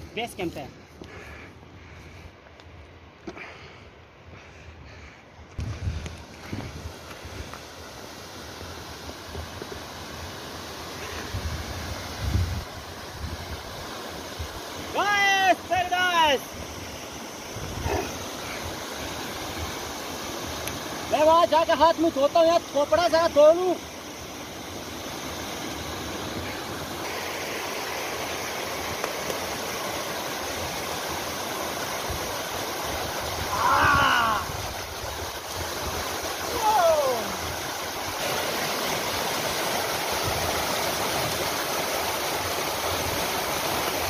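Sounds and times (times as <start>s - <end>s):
stream rushing over rocks: 5.6s - 44.0s.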